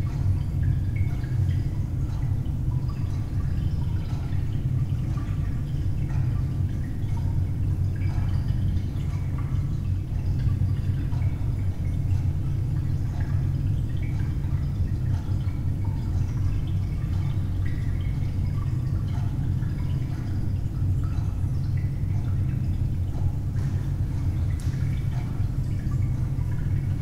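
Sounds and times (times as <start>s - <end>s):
water dripping: 0.0s - 27.0s.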